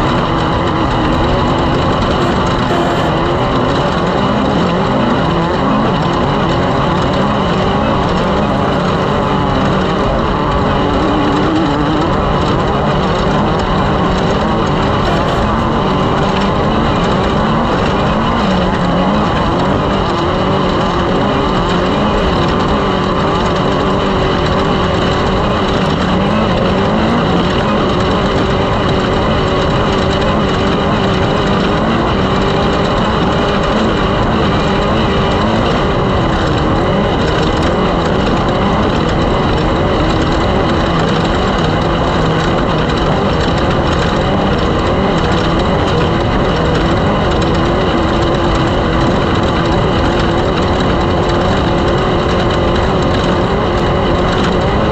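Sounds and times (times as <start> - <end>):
engines running: 0.0 - 54.9.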